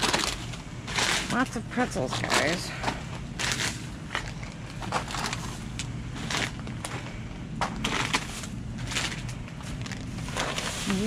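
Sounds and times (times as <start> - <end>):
plastic bags crinkling: 0.0 - 11.0
steady low rumble: 0.0 - 11.0.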